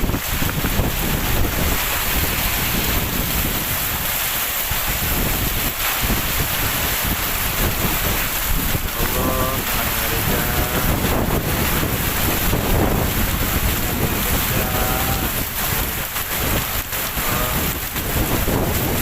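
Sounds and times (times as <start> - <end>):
heavy rain pouring: 0.0 - 19.0
wind gusts buffeting microphone: 0.0 - 19.0.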